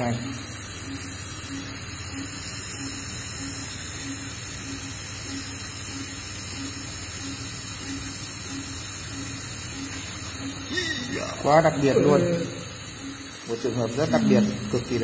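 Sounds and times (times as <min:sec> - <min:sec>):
patient monitor beeping: 0:00.0 - 0:15.0
suction hiss: 0:00.0 - 0:15.0.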